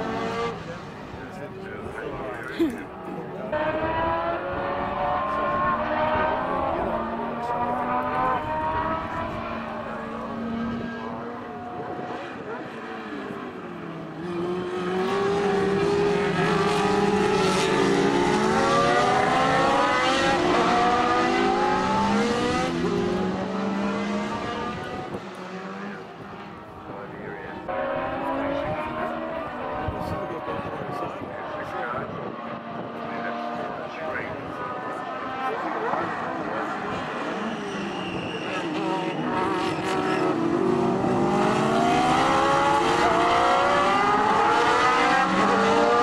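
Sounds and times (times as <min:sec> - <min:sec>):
racing car engines revving: 0:00.0 - 0:46.0.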